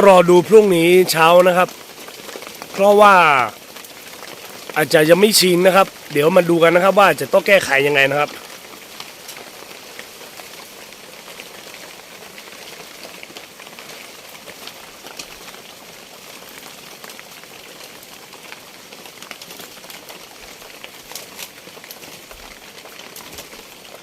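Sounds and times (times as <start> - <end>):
steady rain: 0.0 - 24.0
water drops and drips: 0.4 - 24.0.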